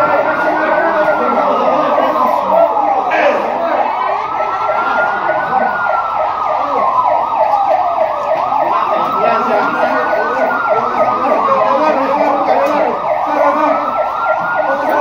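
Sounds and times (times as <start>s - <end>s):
siren wailing: 0.0s - 15.0s
siren yelping: 0.0s - 15.0s.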